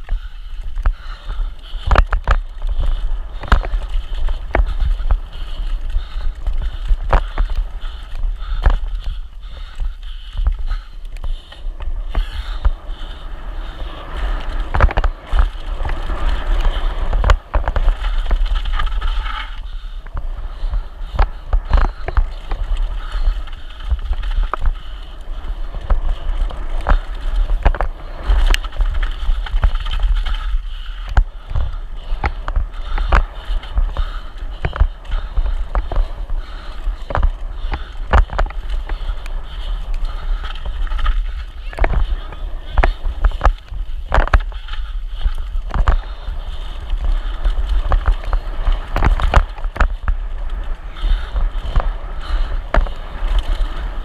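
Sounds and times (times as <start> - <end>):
bike knocking and rattling: 0.0 - 54.0
wind rumbling on microphone: 0.0 - 54.0.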